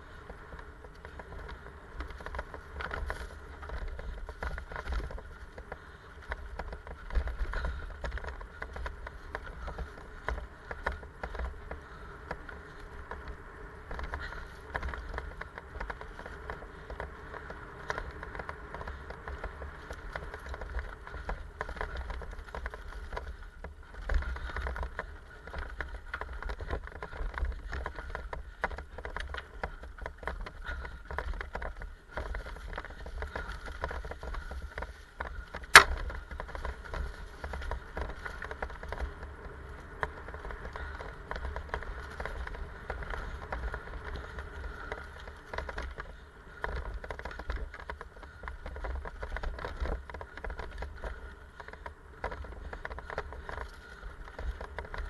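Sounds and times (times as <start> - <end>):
bike rattling over bumps: 0.0 - 55.0
bike tyres rolling over dirt: 0.0 - 55.0
steady low rumble: 0.0 - 55.0.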